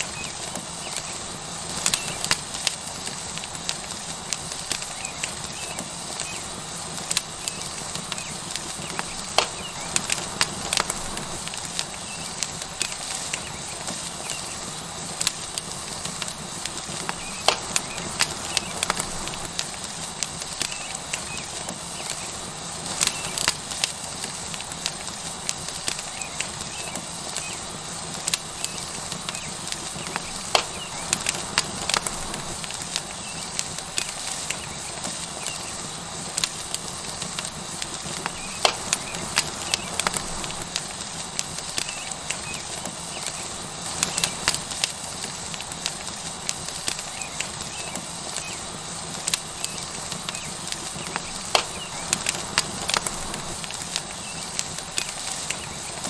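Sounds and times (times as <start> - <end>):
steak sizzling: 0.0 - 56.0
wood fire crackling: 0.0 - 56.0.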